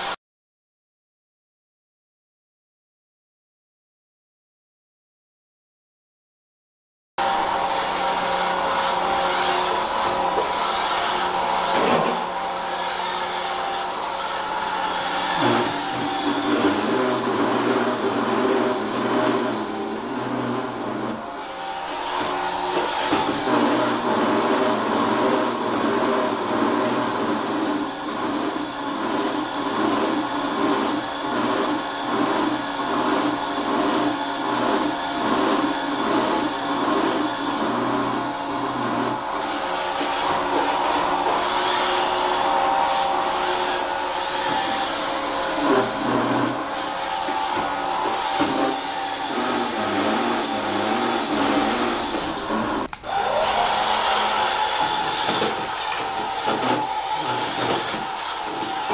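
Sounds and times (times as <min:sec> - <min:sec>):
robot vacuum motor whirring: 0:07.3 - 0:58.9.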